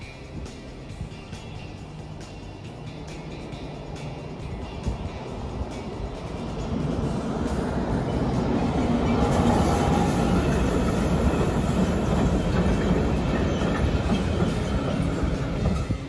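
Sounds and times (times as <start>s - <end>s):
train wheels on rails: 0.2s - 16.0s.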